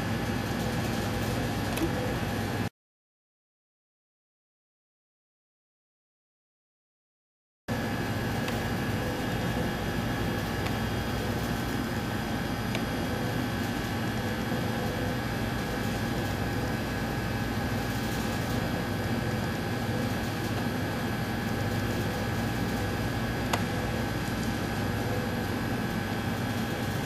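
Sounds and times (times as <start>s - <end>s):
machinery humming and hissing: 0.0s - 2.7s, 7.7s - 27.0s.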